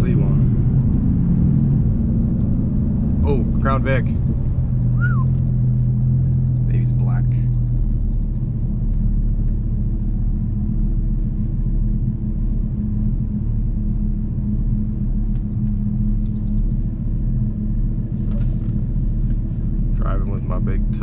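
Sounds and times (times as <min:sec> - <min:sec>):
truck engine drone: 0:00.0 - 0:21.0.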